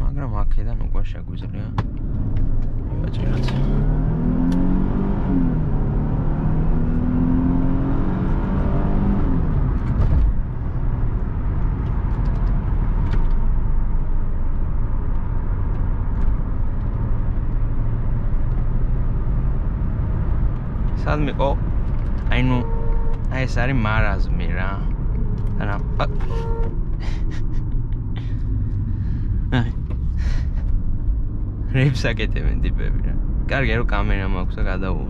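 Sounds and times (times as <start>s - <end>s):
engine and road noise rumble: 0.0s - 35.0s
car engine revving: 1.8s - 35.0s.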